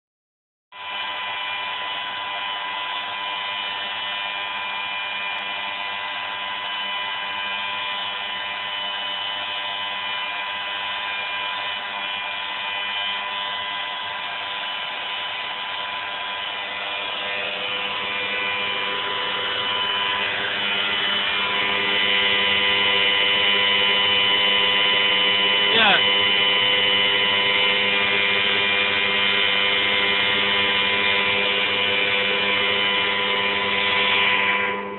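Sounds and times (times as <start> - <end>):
leaf blower running: 0.8 - 34.9.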